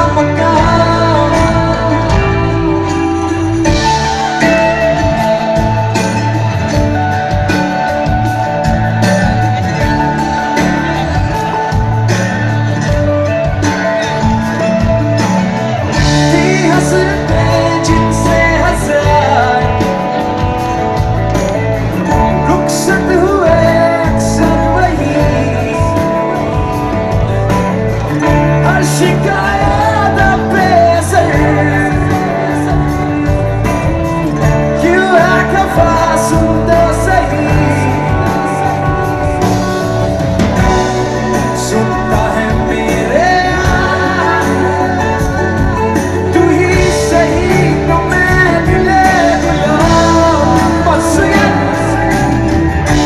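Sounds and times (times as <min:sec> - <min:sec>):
live band playing: 0:00.0 - 0:53.0
person singing: 0:00.0 - 0:53.0.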